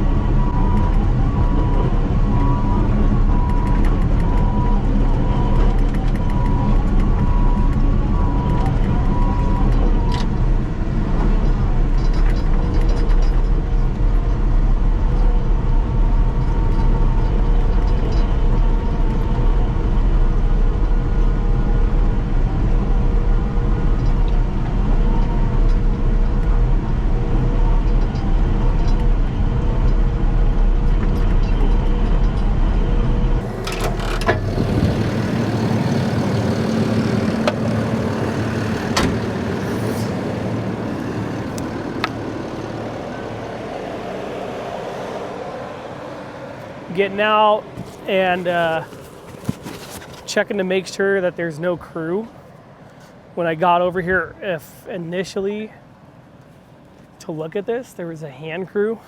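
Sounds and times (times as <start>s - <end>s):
bulldozer diesel engine rumbling: 0.0s - 59.0s.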